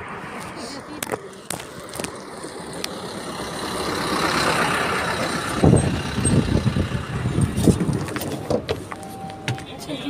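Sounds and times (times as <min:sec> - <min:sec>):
bus engine running: 0:00.0 - 0:10.0.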